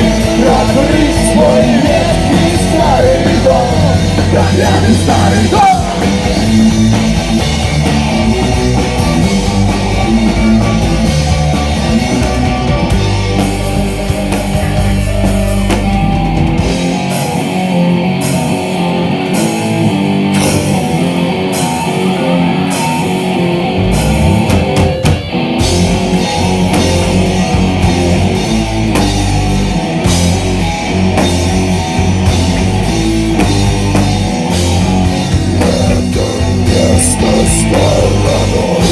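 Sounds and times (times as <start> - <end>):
heavy rock music: 0.0 - 38.9.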